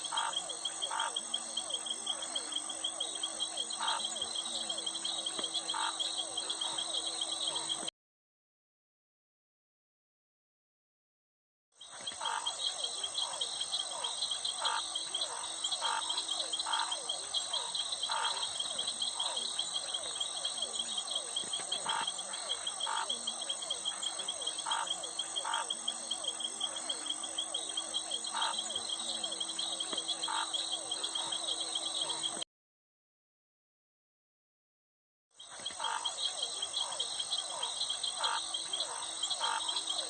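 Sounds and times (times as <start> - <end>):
frogs calling: 0.0 - 7.9, 11.8 - 32.4, 35.4 - 40.0
insects trilling: 0.0 - 7.9, 11.8 - 32.4, 35.4 - 40.0.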